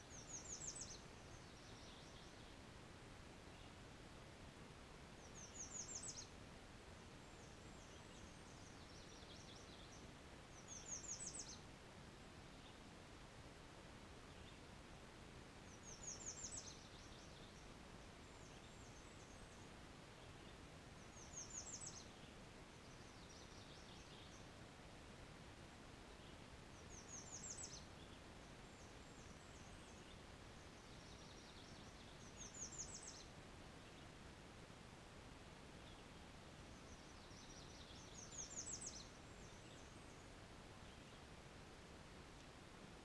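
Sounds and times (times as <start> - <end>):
background hiss: 0.0 - 43.0
songbird singing: 0.0 - 43.0.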